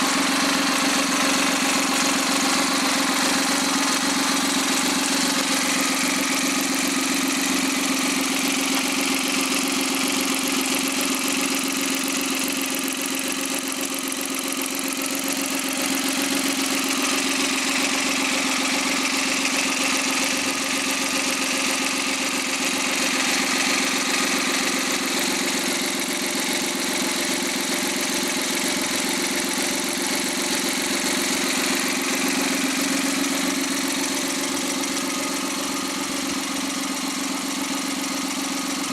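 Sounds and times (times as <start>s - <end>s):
car engine running steadily: 0.0s - 38.9s.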